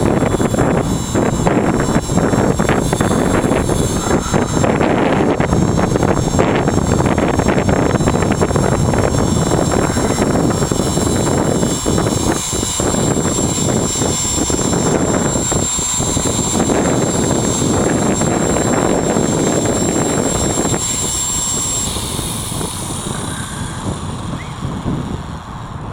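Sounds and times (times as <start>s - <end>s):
high-pitched motor whine: 0.0s - 25.9s
rc helicopter rotor noise: 0.0s - 25.9s
wind buffeting microphone: 0.0s - 25.9s.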